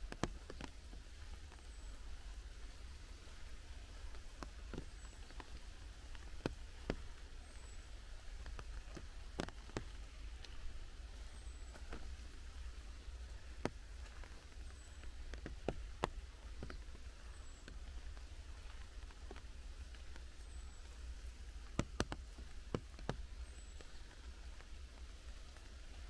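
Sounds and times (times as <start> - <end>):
rain hiss: 0.0 - 26.0
water dripping from trees: 0.0 - 26.0.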